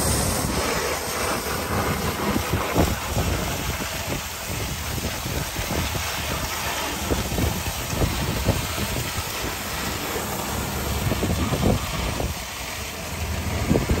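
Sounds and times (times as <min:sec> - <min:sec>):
wind buffeting the microphone: 0:00.0 - 0:12.6, 0:13.2 - 0:14.0
boat engine running: 0:00.0 - 0:14.0
rush of wind and water: 0:00.0 - 0:14.0.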